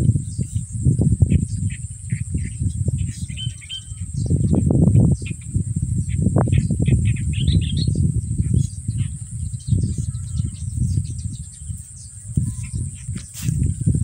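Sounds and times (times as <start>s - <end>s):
birds chirping: 0.0s - 14.0s
high insect drone: 0.0s - 14.0s.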